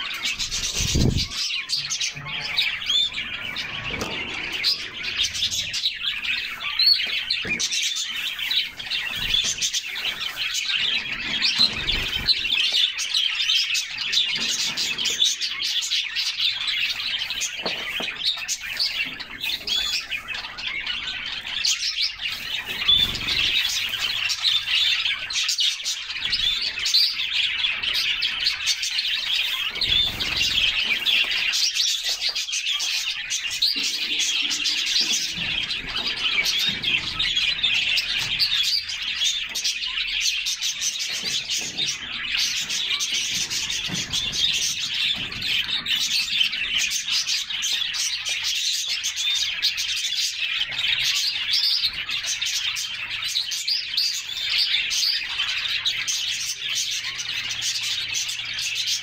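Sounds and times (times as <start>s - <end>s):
canaries chirping and singing: 0.0s - 59.0s.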